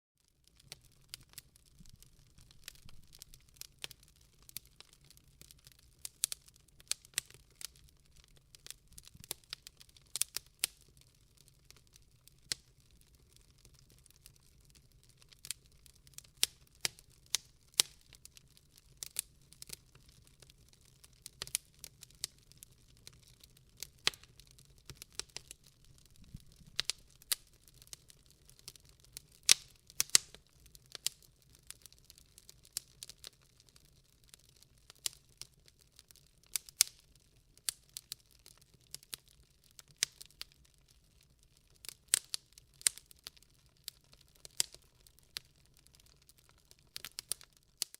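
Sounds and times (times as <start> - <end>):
wood fire crackling and popping: 0.2 - 47.9.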